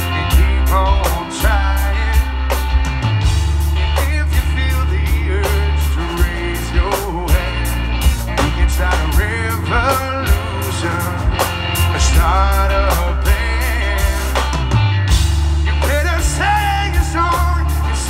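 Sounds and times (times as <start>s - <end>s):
man singing: 0.0s - 2.9s, 3.8s - 14.8s, 15.7s - 18.0s
bass guitar: 0.0s - 18.0s
distorted electric guitars: 0.0s - 18.0s
drum kit beat: 0.0s - 18.0s.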